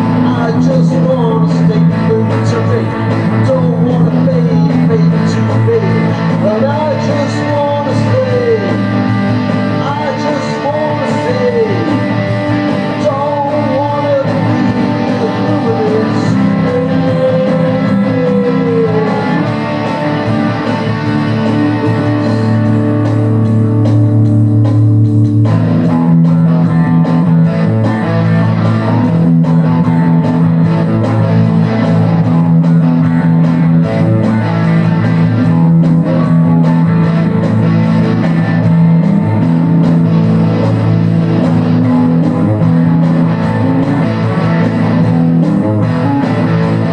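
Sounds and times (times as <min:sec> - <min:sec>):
bass guitar line: 0:00.0 - 0:46.9
electric guitar with bent notes: 0:00.0 - 0:46.9.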